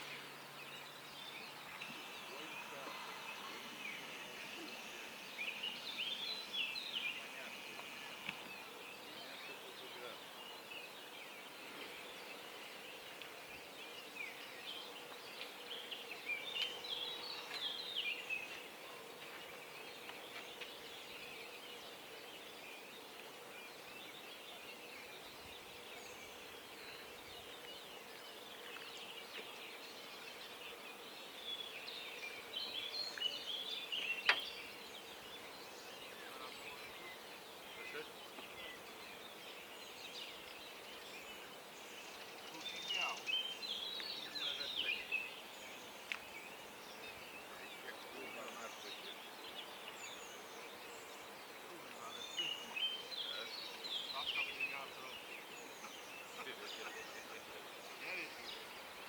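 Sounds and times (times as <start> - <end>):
faint outdoor hiss: 0.0 - 59.0
songbirds chirping and warbling: 0.0 - 59.0.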